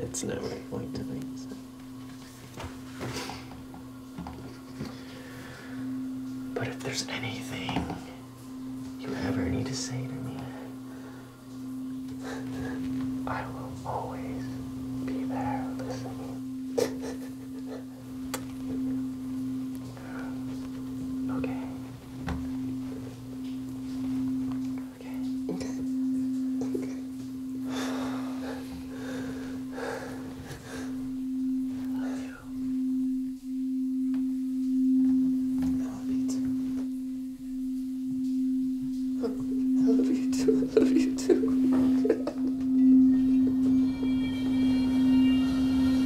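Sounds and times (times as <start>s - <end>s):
sustained low drone tone: 0.0s - 46.0s.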